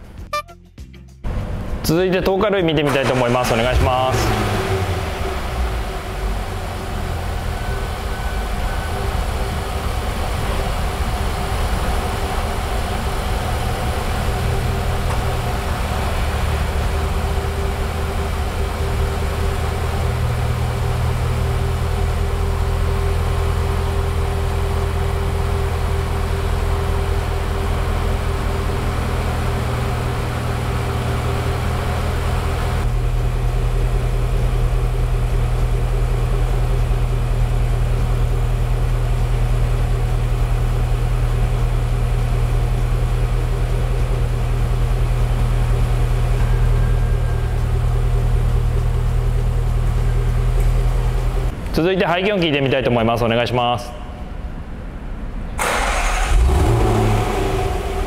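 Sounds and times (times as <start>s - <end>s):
car engine idling: 1.3s - 58.0s.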